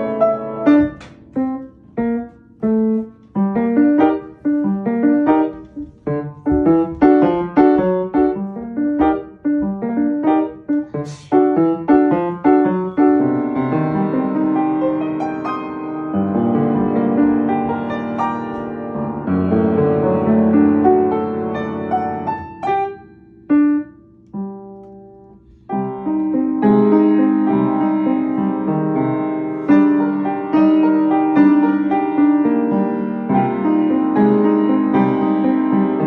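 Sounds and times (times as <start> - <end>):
solo piano: 0.0 - 36.0.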